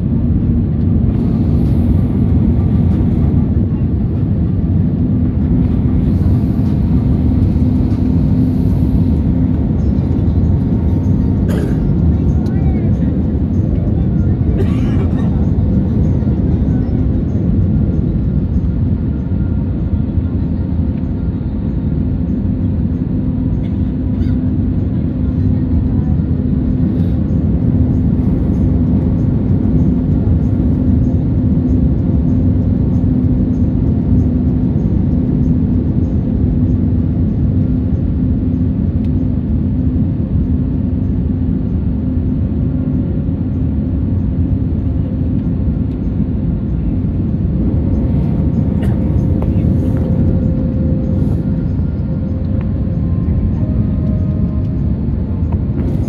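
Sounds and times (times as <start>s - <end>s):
jet engines and airflow roar: 0.0s - 56.0s
low hum: 0.0s - 56.0s.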